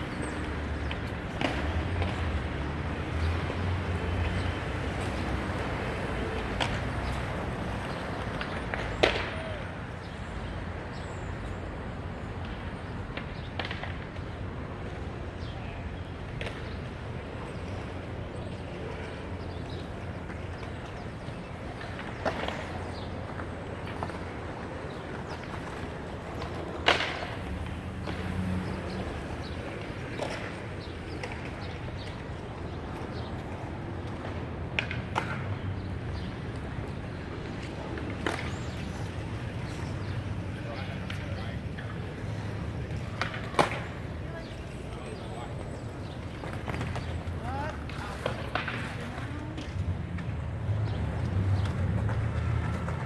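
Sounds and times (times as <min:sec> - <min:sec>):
city street hum: 0:00.0 - 0:53.0
low traffic rumble: 0:00.0 - 0:53.0.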